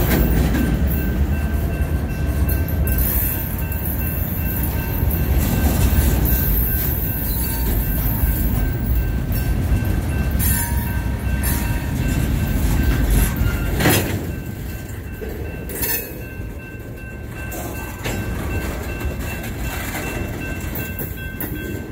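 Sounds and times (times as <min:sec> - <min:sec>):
crossing bell ringing: 0:00.0 - 0:21.9
freight train wheels rumbling: 0:00.0 - 0:21.9
wheels clanking on crossing: 0:00.0 - 0:21.9.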